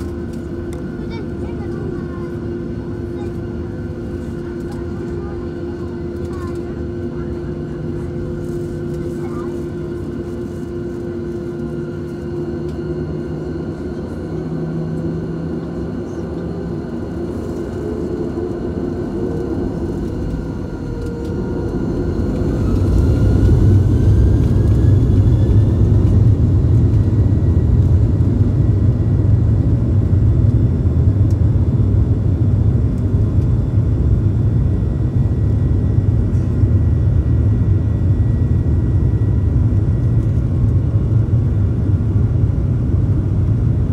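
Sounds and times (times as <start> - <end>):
jet engines whining: 0.0 - 43.9
loud low takeoff rumble: 0.0 - 43.9.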